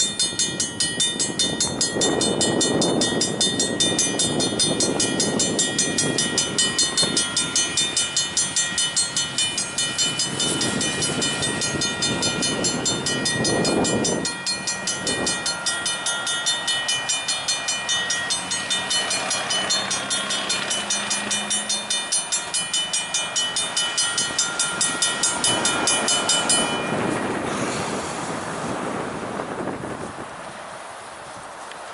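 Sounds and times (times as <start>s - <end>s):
crossing bell ringing: 0.0s - 28.0s
locomotive wheels clicking over rail joints: 0.0s - 28.5s.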